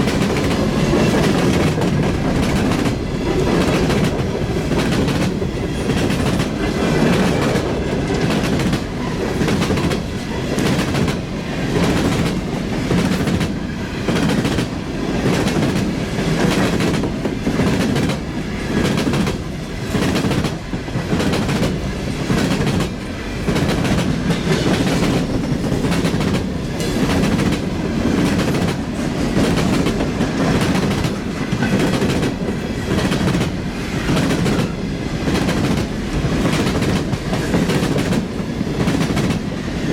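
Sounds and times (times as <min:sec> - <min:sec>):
train wheels clacking over rail joints: 0:00.0 - 0:39.5
continuous rumble of railroad cars: 0:00.0 - 0:39.9.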